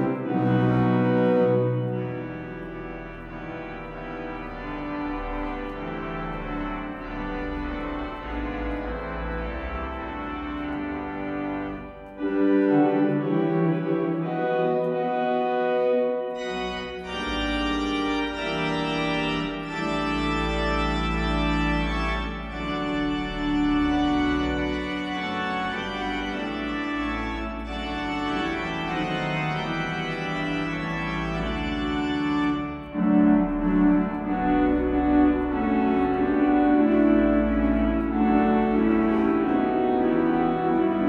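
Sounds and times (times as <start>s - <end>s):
pipe organ chords: 0.0s - 41.0s.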